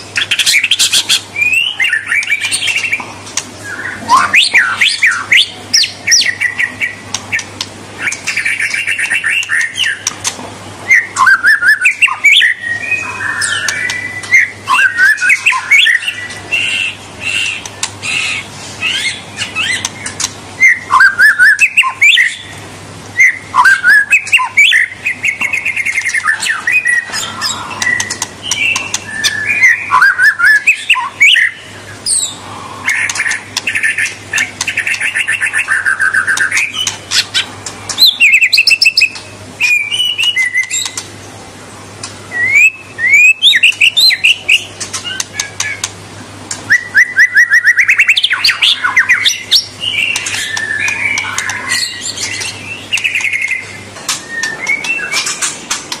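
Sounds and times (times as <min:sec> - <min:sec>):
songbird singing varied song: 0:00.0 - 0:03.0, 0:03.6 - 0:41.1, 0:42.1 - 0:45.9, 0:46.5 - 0:55.8.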